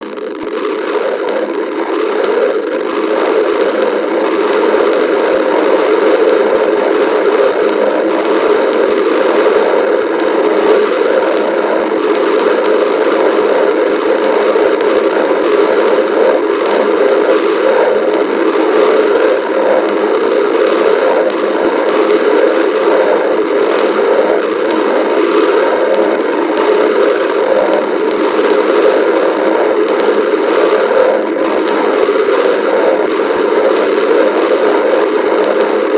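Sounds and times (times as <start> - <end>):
stomach growling: 0.0 - 35.9.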